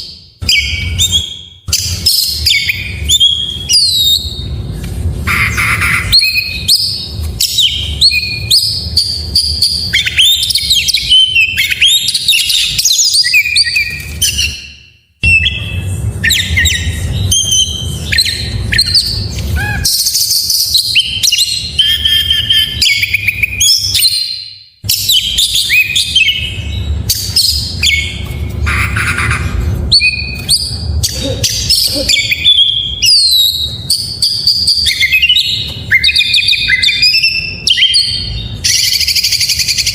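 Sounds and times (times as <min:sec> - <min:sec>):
low steady background rumble: 0:00.0 - 0:39.9
bird singing varied whistled song: 0:00.4 - 0:04.5, 0:06.1 - 0:28.4, 0:29.9 - 0:30.8, 0:31.6 - 0:39.9.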